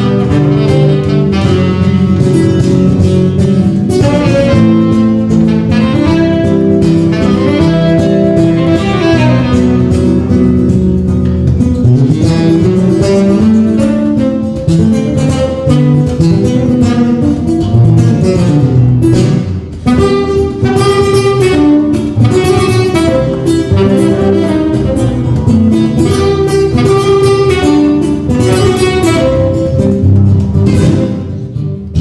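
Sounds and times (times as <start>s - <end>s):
instrumental trio music: 0.0s - 32.0s
plucked guitar: 0.0s - 32.0s.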